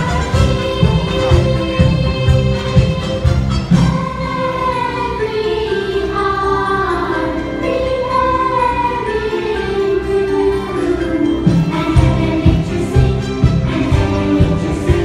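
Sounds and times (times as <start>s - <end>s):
backing music: 0.0s - 15.0s
choir singing christmas song: 0.0s - 15.0s.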